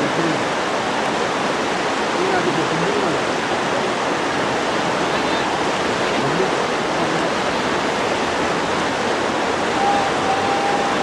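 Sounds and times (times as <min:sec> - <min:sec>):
river whitewater rushing: 0:00.0 - 0:11.0.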